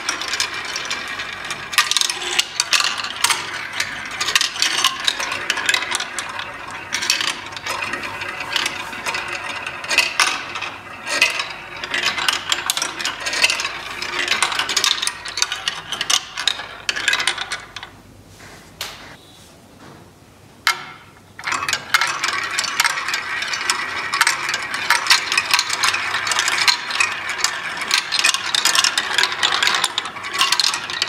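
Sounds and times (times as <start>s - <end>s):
small hard pieces rattling: 0.0s - 17.8s, 21.5s - 31.0s.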